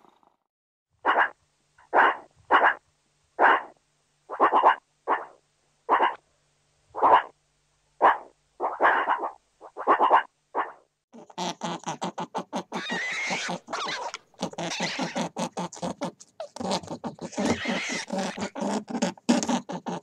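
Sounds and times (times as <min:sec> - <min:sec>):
animal calling in rapid pulses: 0:01.0 - 0:02.8, 0:03.4 - 0:06.2, 0:07.0 - 0:07.3, 0:08.0 - 0:20.0.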